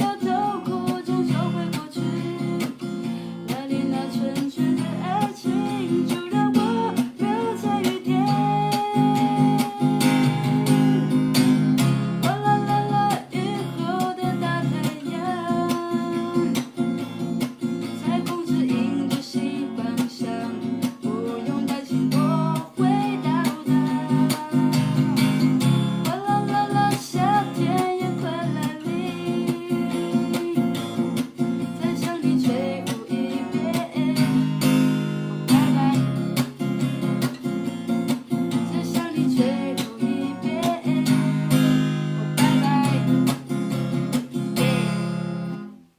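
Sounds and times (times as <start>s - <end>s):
person singing a ballad: 0.0s - 45.6s
acoustic guitar strumming: 0.0s - 45.9s.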